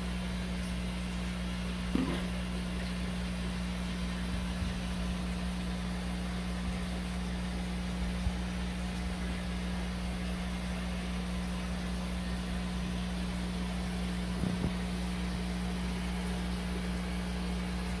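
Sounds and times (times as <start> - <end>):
aquarium air pump humming: 0.0 - 18.0.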